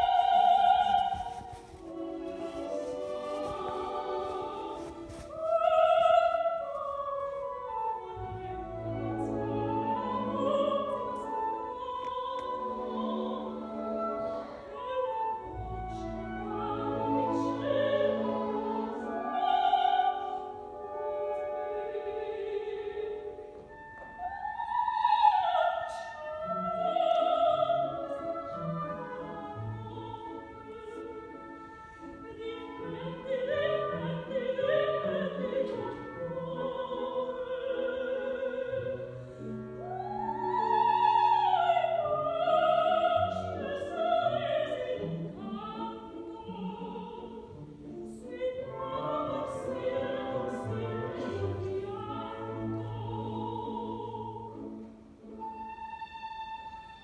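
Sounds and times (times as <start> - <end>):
opera singers with orchestra: 0.0 - 57.0.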